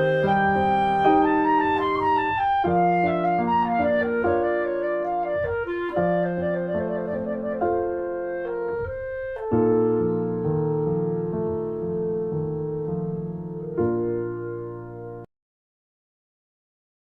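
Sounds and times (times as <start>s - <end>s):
piano: 0.0s - 15.3s
woodwind melody: 0.0s - 15.3s.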